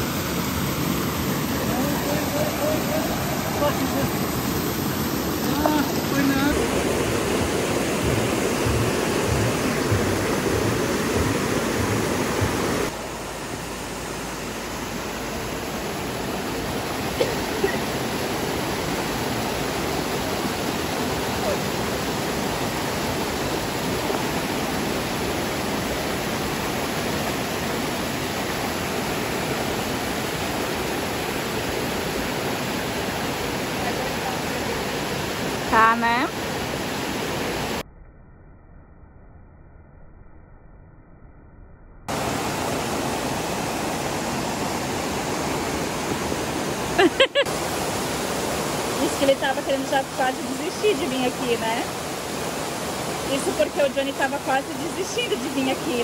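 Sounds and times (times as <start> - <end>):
waterfall rushing: 0.0 - 37.8, 42.1 - 56.0.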